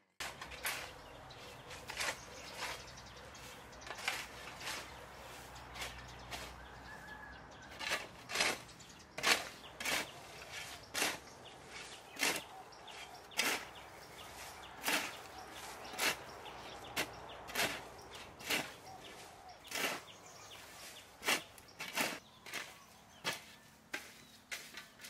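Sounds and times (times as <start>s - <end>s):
hoe chopping dry soil: 0.2s - 25.0s.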